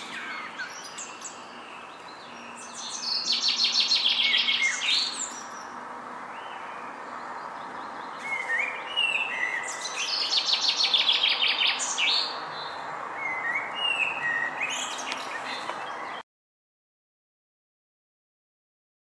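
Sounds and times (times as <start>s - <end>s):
bird trill: 0.0s - 16.2s
steady outdoor hiss: 0.0s - 16.2s
woodland birds singing: 0.0s - 16.2s.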